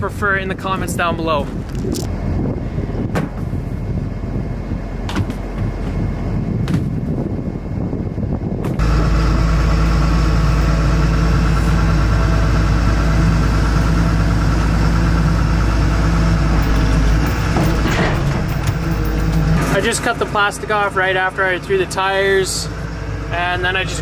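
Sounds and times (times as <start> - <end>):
wind rumble: 0.0 - 23.9
diesel engine running: 0.0 - 24.0.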